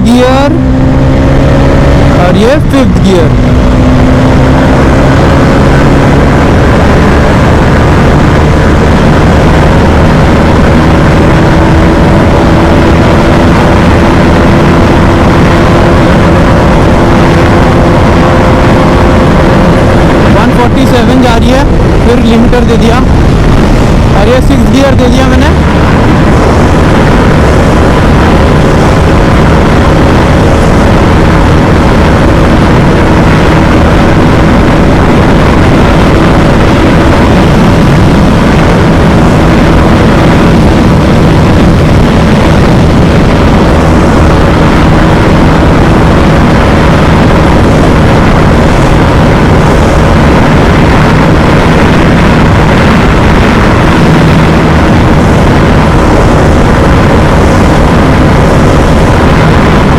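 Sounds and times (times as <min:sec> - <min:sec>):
loud wind rush: 0:00.0 - 0:59.9
motorcycle engine at high revs: 0:00.0 - 0:59.9.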